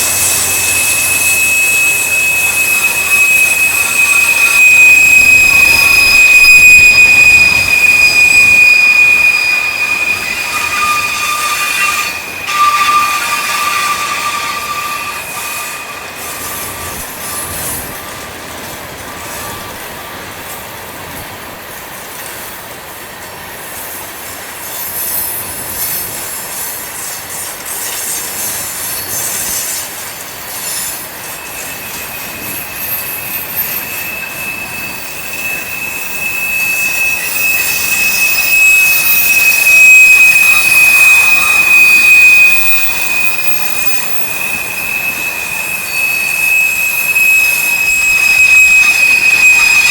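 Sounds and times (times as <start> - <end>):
train wheels squealing on rail: 0.0 - 49.9.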